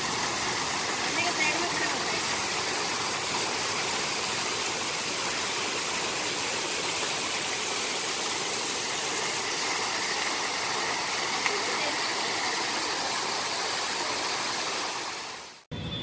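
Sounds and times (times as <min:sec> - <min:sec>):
waterfall splashing into pool: 0:00.0 - 0:15.7.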